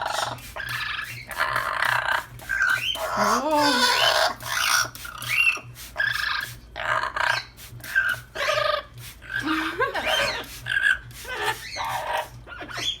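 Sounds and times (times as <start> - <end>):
parrot harsh calls and chatter: 0.0 - 13.0.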